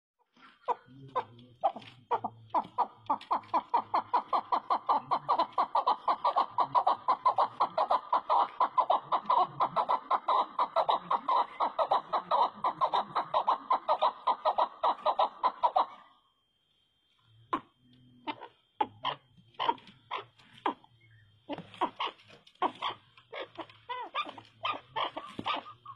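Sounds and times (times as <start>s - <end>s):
partridge chuck calls: 0.2s - 16.2s, 17.5s - 25.9s.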